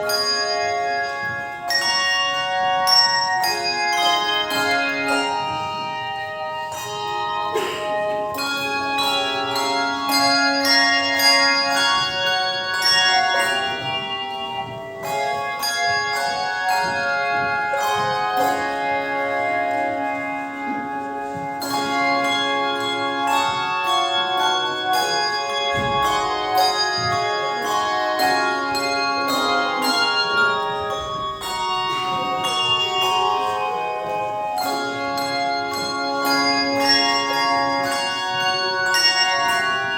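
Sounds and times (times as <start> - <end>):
tuned bells playing a melody: 0.0 - 39.9.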